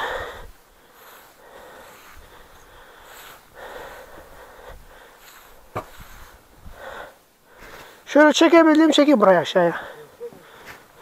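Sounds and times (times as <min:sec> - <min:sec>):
man breathing hard: 0:00.0 - 0:08.1, 0:09.7 - 0:11.0.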